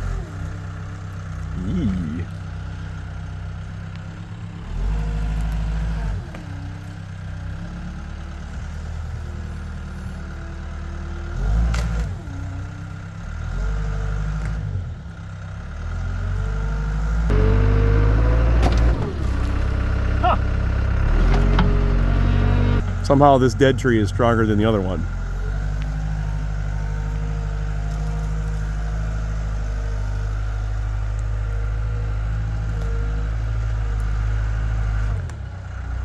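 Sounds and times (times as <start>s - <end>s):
diesel engine working under load: 0.0s - 36.0s.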